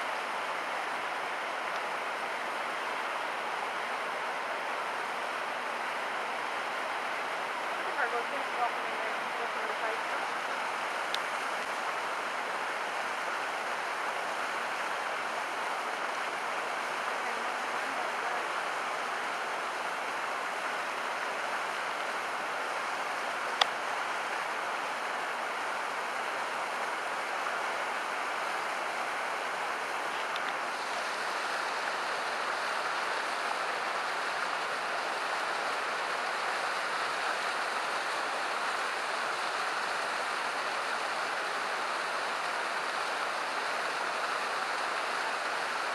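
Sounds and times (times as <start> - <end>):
flowing water: 0.0 - 45.9.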